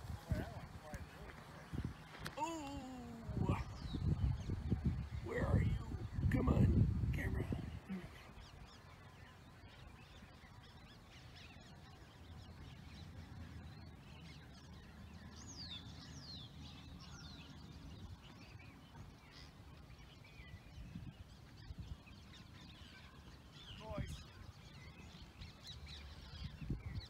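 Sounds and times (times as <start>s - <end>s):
high bird calls: 0.0s - 27.0s
wind rumble on microphone: 0.0s - 27.0s.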